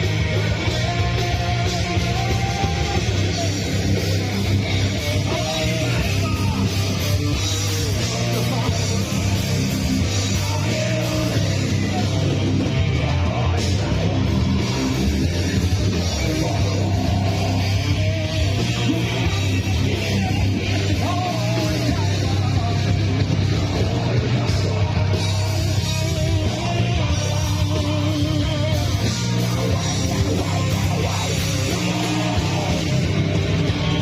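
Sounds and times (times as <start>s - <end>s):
live rock band playing: 0.0s - 34.0s
shouted vocals: 0.0s - 34.0s.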